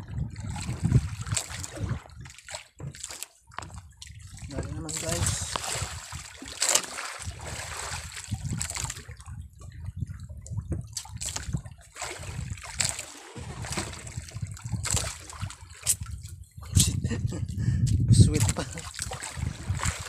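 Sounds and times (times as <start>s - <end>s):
water splashing at boat side: 0.0s - 17.0s, 18.1s - 20.0s.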